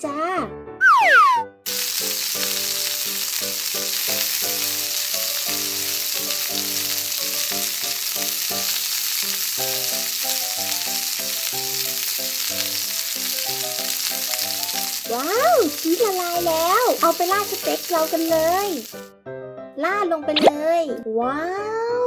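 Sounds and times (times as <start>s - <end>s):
frying pan sizzle: 1.1s - 19.1s.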